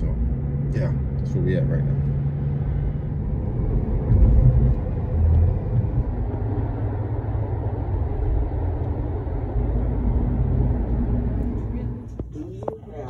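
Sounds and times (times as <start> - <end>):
car road and engine rumble: 0.0 - 13.0
low thumps: 1.8 - 12.9.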